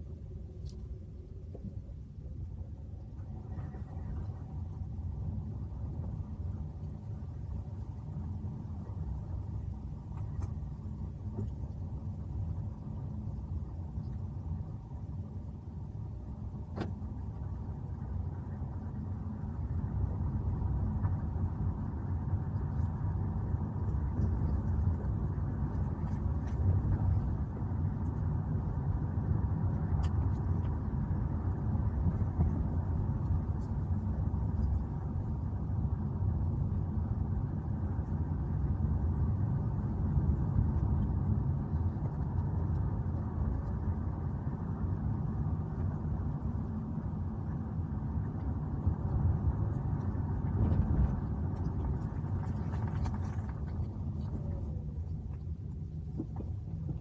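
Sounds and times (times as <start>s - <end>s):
low rumble: 0.0s - 57.0s.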